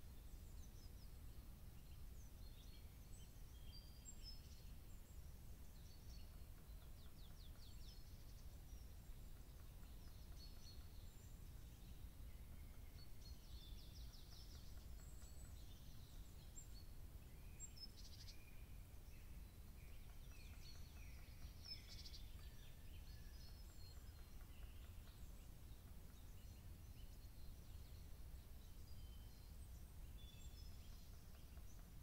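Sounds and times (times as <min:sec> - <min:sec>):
songbirds chirping and trilling: 0:00.0 - 0:32.0.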